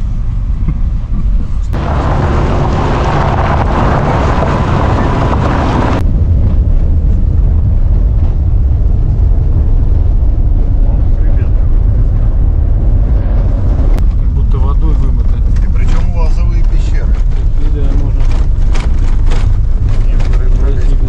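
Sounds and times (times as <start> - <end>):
vehicle rumble: 0.0 - 21.0
wind buffeting microphone: 0.0 - 21.0.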